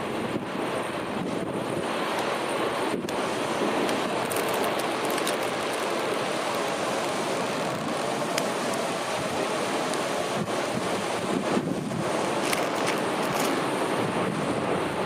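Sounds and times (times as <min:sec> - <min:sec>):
fast river rushing: 0:00.0 - 0:15.0.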